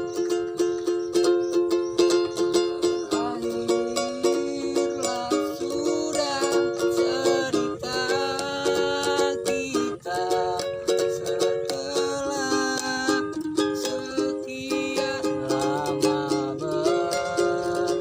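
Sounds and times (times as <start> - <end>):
sliding melody line: 0.0 - 18.0
ukulele strumming chords: 0.0 - 18.0.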